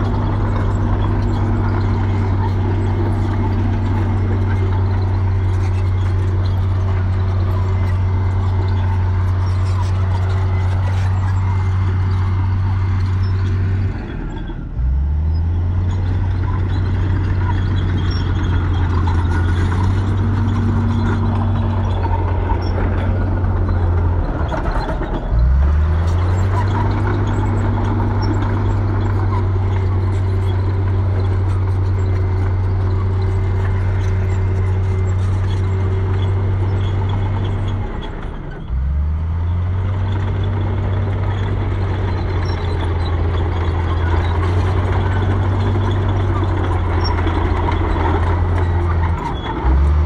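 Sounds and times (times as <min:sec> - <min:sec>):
bulldozer diesel engine under load: 0:00.0 - 0:50.0.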